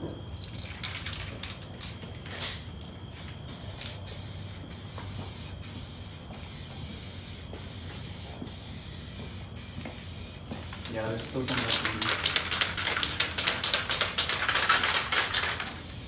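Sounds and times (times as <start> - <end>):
aerosol can spraying: 3.1 - 16.0.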